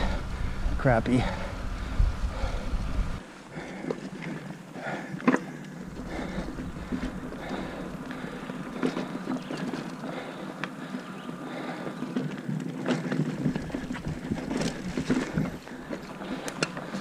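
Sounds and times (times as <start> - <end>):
tyres rumbling on dirt: 0.0 - 17.0
bike rattling and knocking: 2.2 - 17.0.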